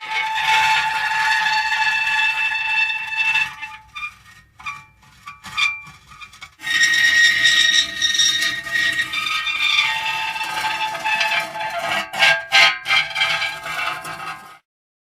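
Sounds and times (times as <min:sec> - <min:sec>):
metal creaking and squealing: 0:00.0 - 0:14.7.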